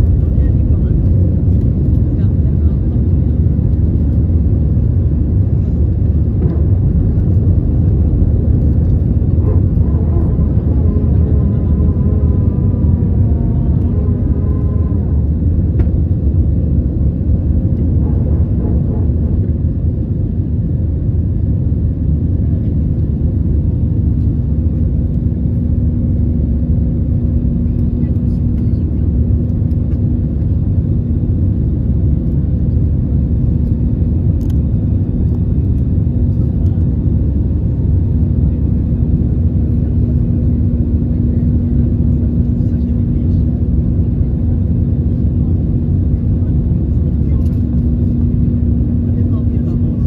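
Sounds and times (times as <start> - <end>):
airplane cabin engine rumble: 0.0 - 50.0.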